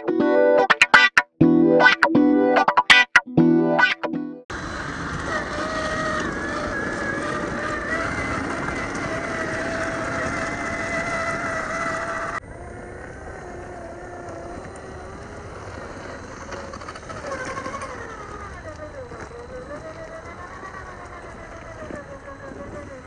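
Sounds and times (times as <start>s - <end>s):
electric motor whining: 4.5s - 23.0s.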